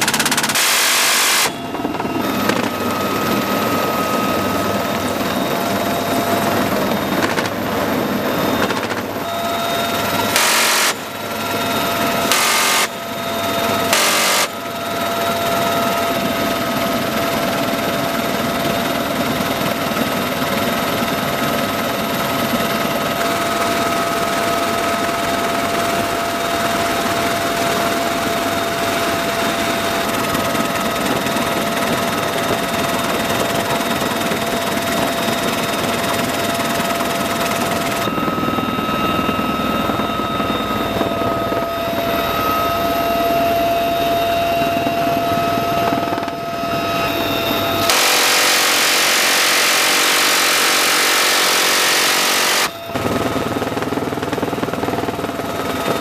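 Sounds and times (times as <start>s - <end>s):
helicopter rotor noise: 0.0s - 56.0s
high turbine whine: 0.0s - 56.0s.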